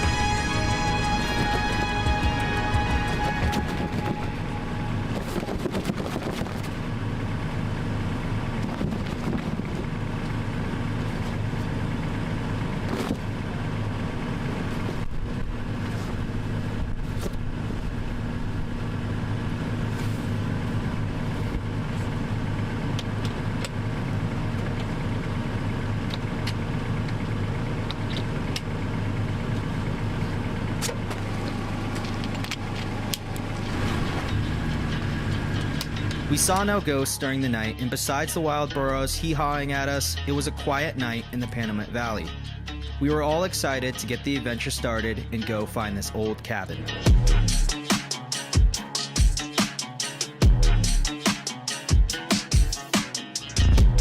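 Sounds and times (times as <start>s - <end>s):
vehicle engine and road drone: 0.0s - 54.0s.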